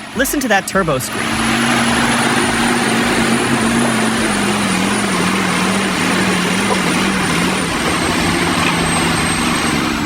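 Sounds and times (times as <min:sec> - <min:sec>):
heavy machine engine running hard: 0:00.0 - 0:10.0
high turbo whine: 0:00.0 - 0:10.0.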